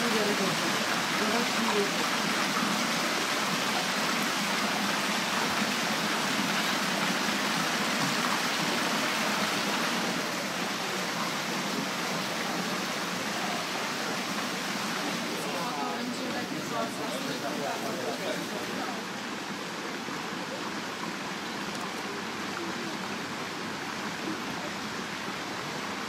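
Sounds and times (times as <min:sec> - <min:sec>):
fountain water splashing into pool: 0:00.0 - 0:26.0.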